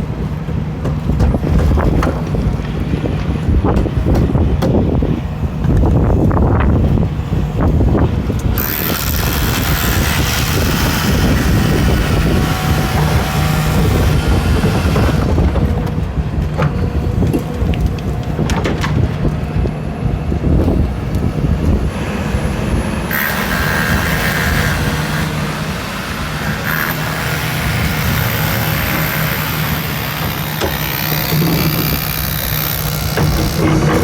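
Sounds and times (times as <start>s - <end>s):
excavator diesel engine running: 0.0s - 34.0s
machine whine: 6.3s - 34.0s.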